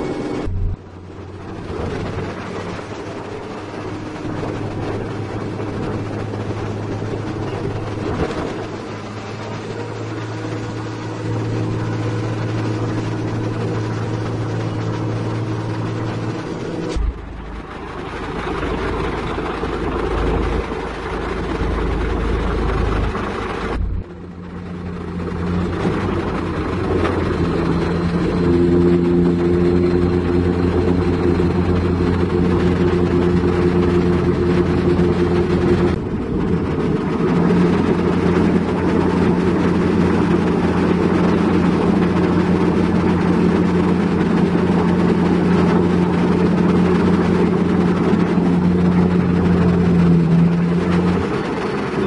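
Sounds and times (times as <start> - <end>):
heavy diesel machinery running: 0.0 - 52.0
higher pitched drone: 0.0 - 52.0.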